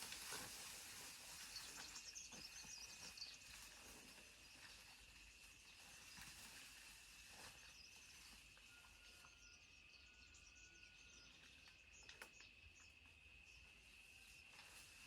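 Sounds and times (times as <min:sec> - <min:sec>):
birds chirping: 0:01.0 - 0:14.5.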